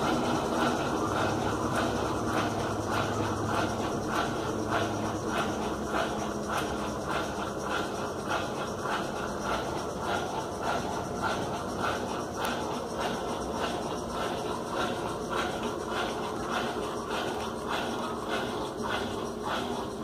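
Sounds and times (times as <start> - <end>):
low motor hum: 0.0 - 20.0
washing machine running: 0.0 - 20.0.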